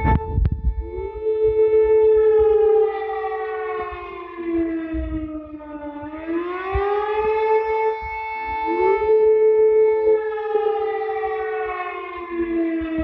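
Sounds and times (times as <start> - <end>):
warning siren: 0.0 - 13.0.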